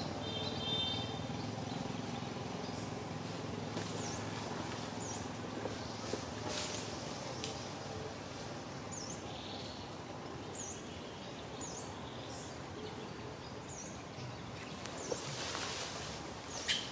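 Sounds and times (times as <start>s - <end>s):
steady background hiss: 0.0s - 16.9s.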